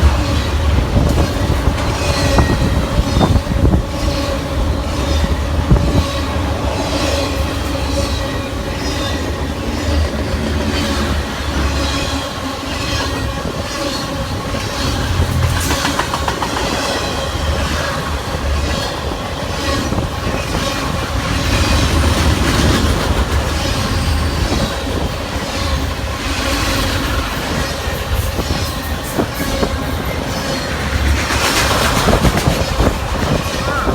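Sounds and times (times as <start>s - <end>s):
train wheels clattering over rail joints: 0.0s - 33.9s.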